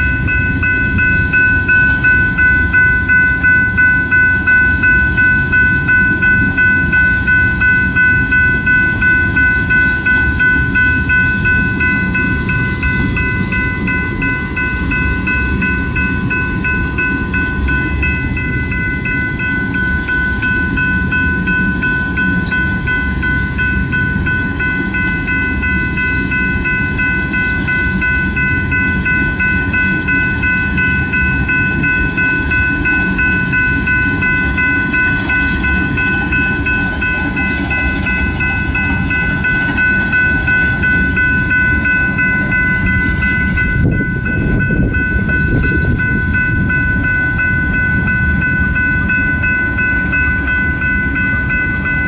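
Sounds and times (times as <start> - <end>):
crossing warning bell ringing: 0.0 - 52.0
freight train wheels clacking: 0.0 - 52.0.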